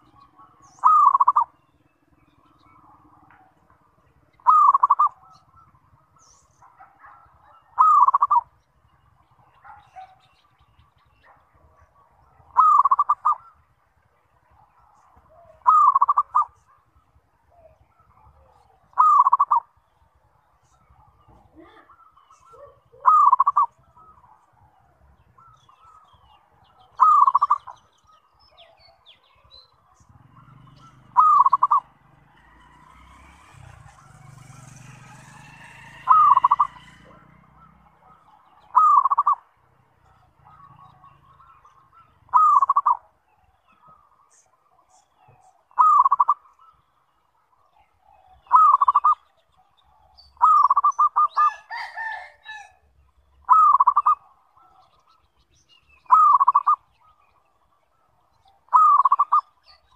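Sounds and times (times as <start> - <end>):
dove cooing: 0.0 - 1.6, 2.4 - 8.6, 11.2 - 13.6, 14.6 - 16.8, 17.5 - 19.8, 20.7 - 46.8, 47.8 - 52.8, 53.4 - 55.0, 56.0 - 57.3, 58.0 - 59.9.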